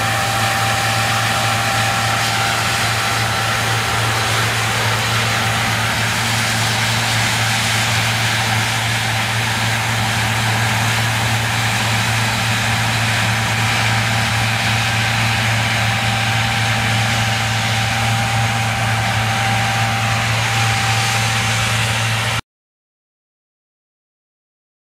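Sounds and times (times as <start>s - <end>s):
machinery drone: 0.0s - 22.4s
thin steady whine: 0.0s - 22.4s.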